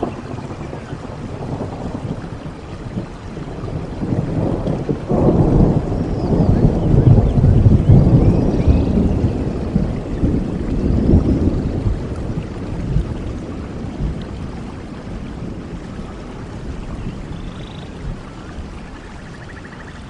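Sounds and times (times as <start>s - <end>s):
rolling thunder: 0.0s - 19.1s
steady rain: 0.0s - 20.0s.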